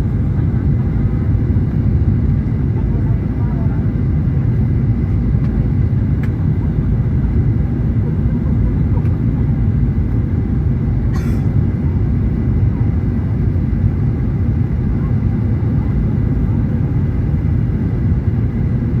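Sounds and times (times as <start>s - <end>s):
airplane engines rumbling: 0.0s - 19.0s.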